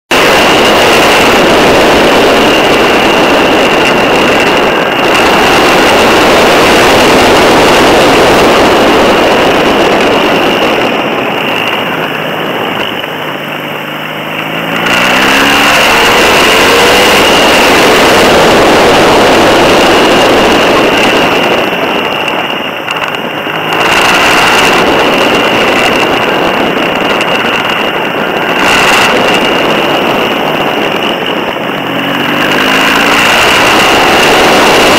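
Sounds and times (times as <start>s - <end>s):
motorcycle engine: 0.1s - 34.9s
wind and road noise: 0.1s - 34.9s.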